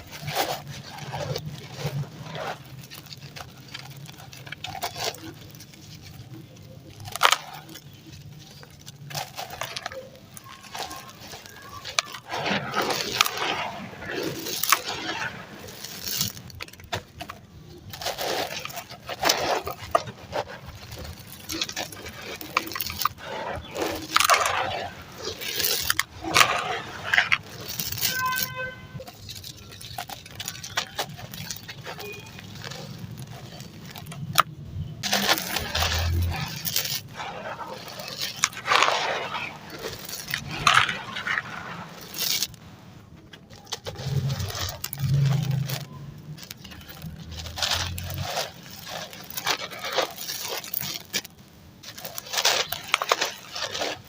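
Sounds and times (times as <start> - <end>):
dry ash crushed and crumbling: 0.0 - 54.0.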